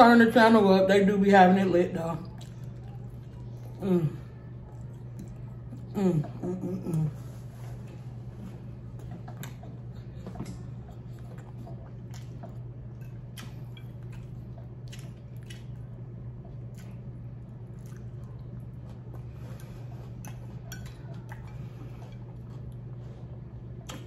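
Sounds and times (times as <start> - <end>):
steady low hum: 0.0 - 24.0
chewing with wet mouth sounds: 1.9 - 24.0.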